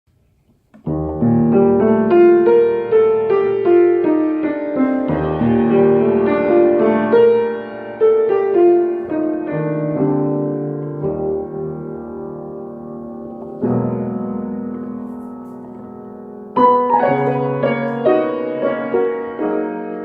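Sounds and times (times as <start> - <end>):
piano music: 0.7 - 20.0.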